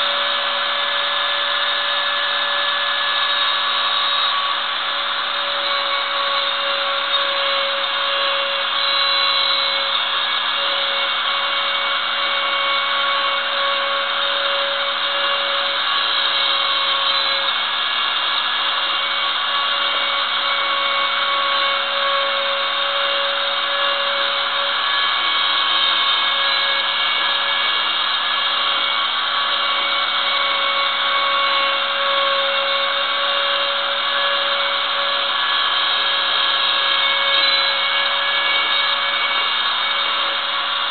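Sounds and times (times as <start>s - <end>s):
bit carving wood: 0.0s - 40.9s
router spindle whining: 0.0s - 40.9s.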